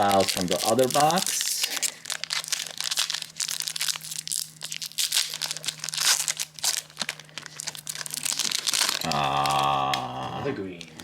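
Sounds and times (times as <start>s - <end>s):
foil wrapper tearing and crinkling: 0.0s - 9.7s.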